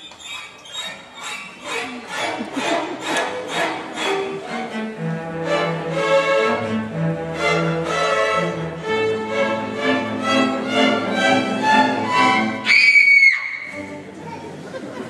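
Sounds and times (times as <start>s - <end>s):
string orchestra playing: 1.2s - 12.9s, 13.5s - 15.0s.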